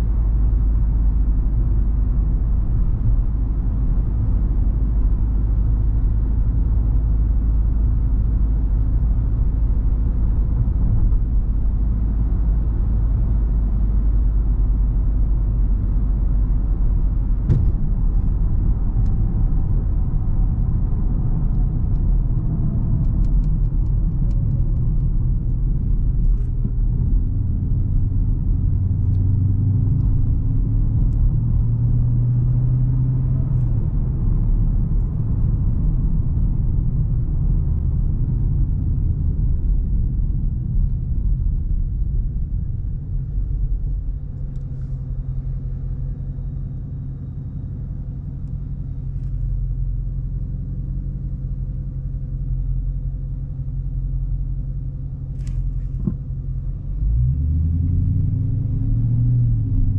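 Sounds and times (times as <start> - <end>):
car engine rumbling: 0.0 - 59.9
road noise: 0.0 - 59.9.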